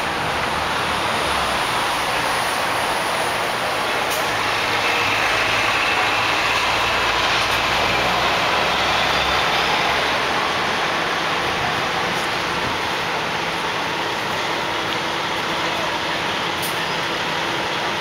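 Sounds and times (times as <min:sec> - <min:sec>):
street noise: 0:00.0 - 0:18.0
truck engine idling: 0:00.0 - 0:18.0.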